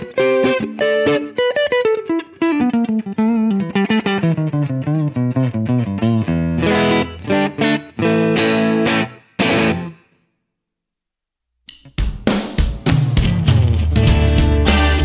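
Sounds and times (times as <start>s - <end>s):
electric guitar with reverb: 0.0s - 10.2s, 13.0s - 15.0s.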